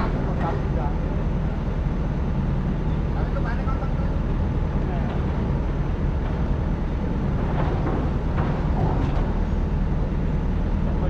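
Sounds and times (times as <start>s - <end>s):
excavator engine droning: 0.0s - 11.0s.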